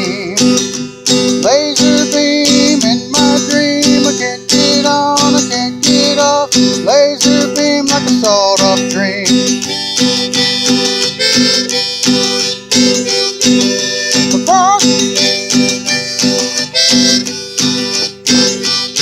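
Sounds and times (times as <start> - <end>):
guitar strumming: 0.0 - 19.0
harmonica bending notes: 0.0 - 19.0.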